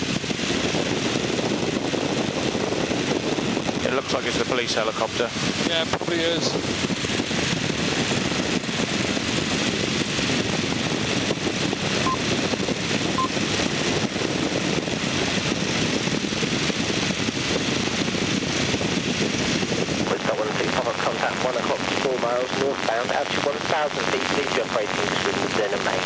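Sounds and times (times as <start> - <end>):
aircraft engine and propeller drone: 0.0 - 26.0.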